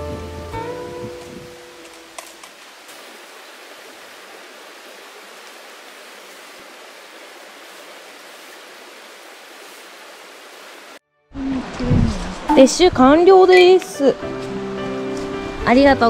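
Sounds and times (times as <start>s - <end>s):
stream flowing over stones: 1.3s - 16.0s.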